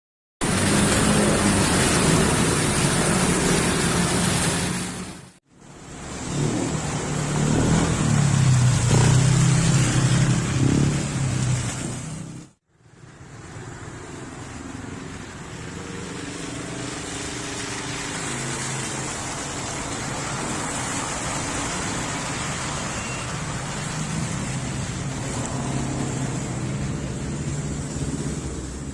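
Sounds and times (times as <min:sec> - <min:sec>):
heavy rain falling: 0:00.4 - 0:12.6, 0:13.2 - 0:28.9.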